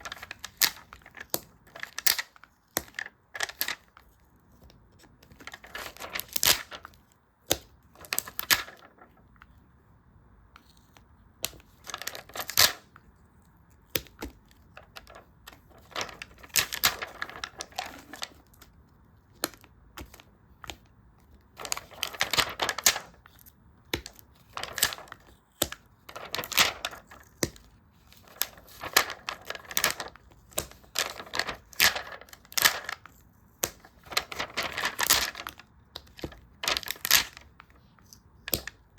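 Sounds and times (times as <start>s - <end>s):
paper crinkling: 0.0s - 7.2s, 7.9s - 9.5s, 10.6s - 13.6s, 14.2s - 18.8s, 19.4s - 38.9s.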